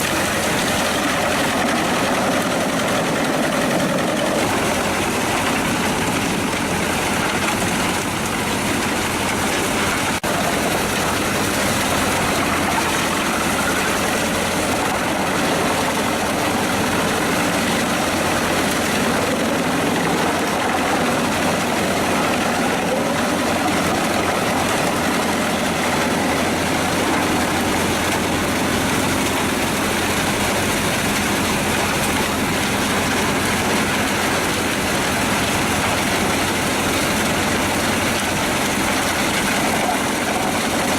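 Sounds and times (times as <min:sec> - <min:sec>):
wood chipper diesel engine running: 0:00.0 - 0:40.9.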